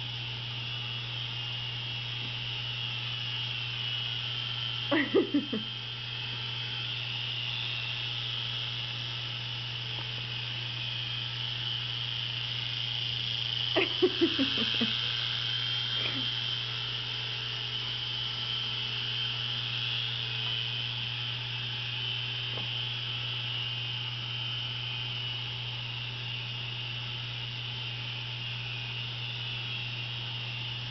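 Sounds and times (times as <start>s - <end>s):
toy helicopter rotors whining: 0.0s - 30.9s.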